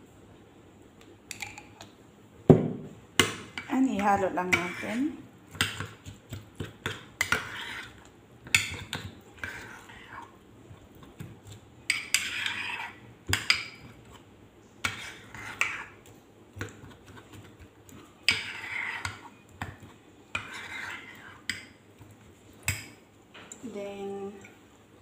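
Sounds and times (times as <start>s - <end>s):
spoon stirring thick sauce: 3.4s - 23.6s.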